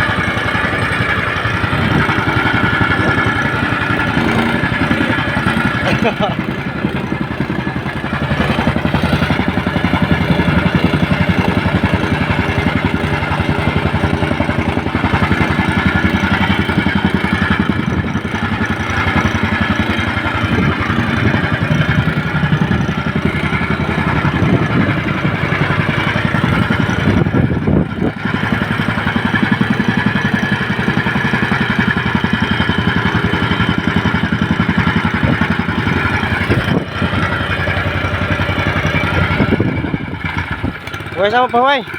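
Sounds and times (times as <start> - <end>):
small engine running: 0.0 - 41.9.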